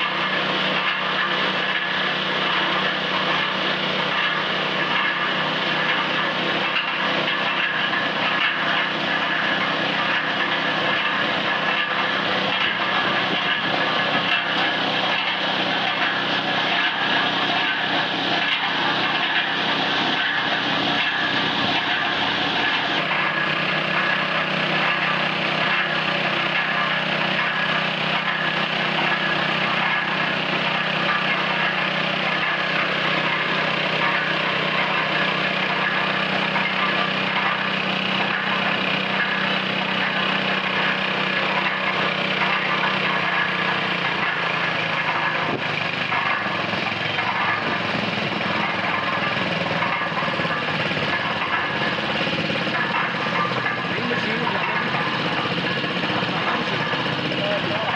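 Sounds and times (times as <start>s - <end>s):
small petrol engine running: 0.0s - 57.9s.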